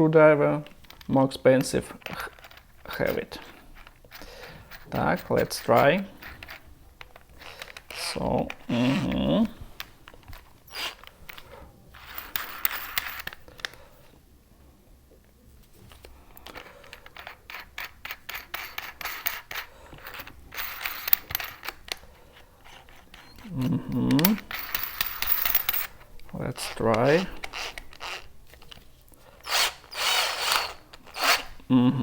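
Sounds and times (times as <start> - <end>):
metal parts clinking and scraping: 0.6 - 13.8, 15.9 - 31.6.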